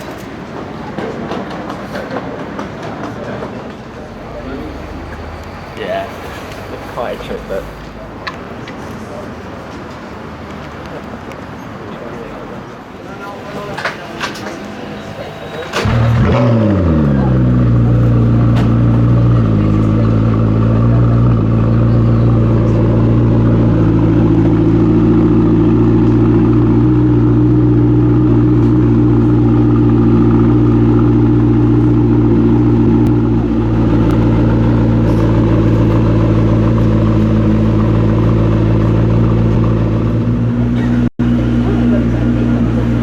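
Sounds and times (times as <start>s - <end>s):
car engine idling: 0.0s - 8.7s, 15.7s - 43.0s.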